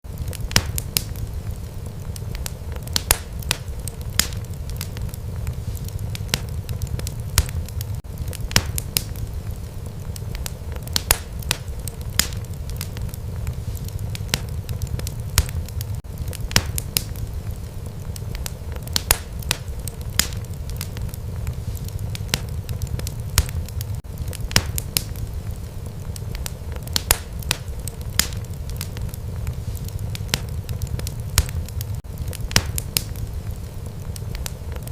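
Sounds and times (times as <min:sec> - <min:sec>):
fire flames rumbling: 0:00.0 - 0:34.9
fire pops and crackles: 0:00.0 - 0:34.9.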